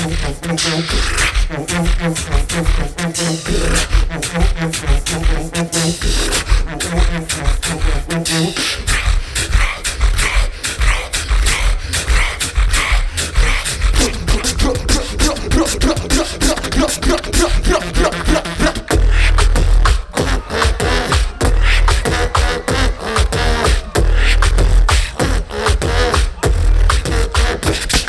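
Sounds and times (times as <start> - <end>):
beatboxing: 0.0 - 28.0
heavy bass: 0.0 - 28.0.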